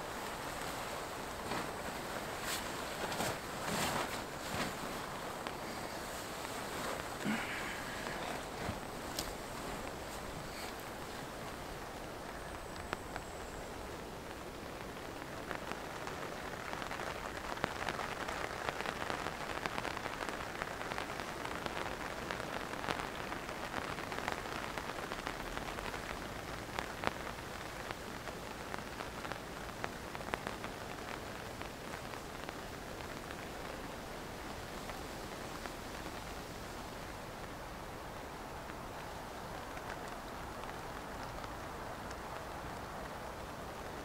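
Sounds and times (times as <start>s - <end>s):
rain on a tent: 0.0s - 44.0s
raindrops ticking on cloth: 0.0s - 44.0s.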